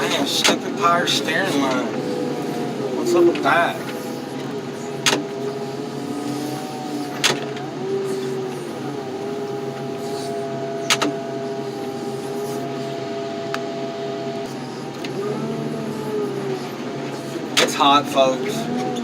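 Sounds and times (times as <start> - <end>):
hydraulic equipment whining: 0.0 - 19.0.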